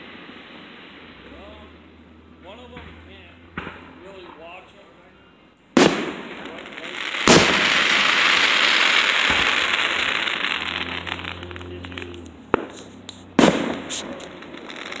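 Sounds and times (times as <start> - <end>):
fireworks bangs and booms: 0.0 - 1.8, 2.4 - 4.8, 5.7 - 15.0
fireworks crackling: 0.0 - 5.0, 5.6 - 15.0.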